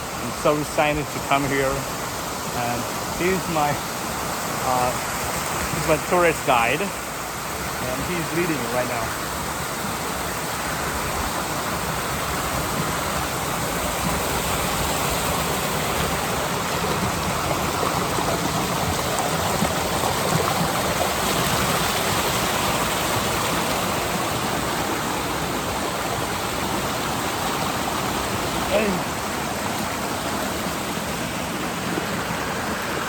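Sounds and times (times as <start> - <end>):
water rushing over rocks: 0.0 - 33.0.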